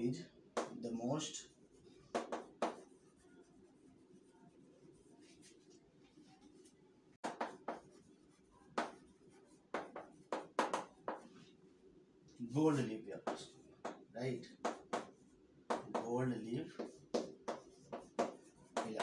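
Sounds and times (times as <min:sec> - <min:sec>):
chalk writing on chalkboard: 0:00.6 - 0:11.8, 0:12.4 - 0:19.0
chalk strokes and taps: 0:00.6 - 0:19.0.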